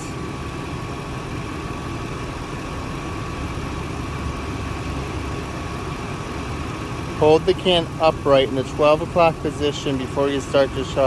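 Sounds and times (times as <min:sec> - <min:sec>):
air conditioning high tone: 0:00.0 - 0:11.0
truck engine idling: 0:00.0 - 0:11.0.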